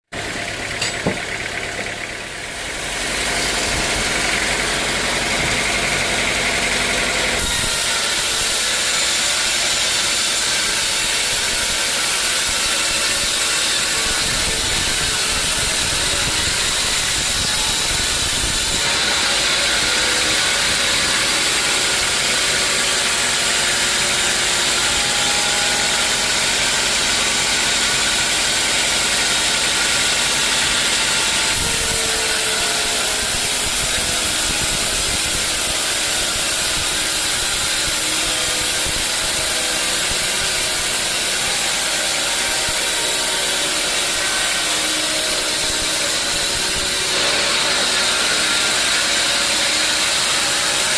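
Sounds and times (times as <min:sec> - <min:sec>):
sawmill saw cutting log: 0:00.1 - 0:50.9.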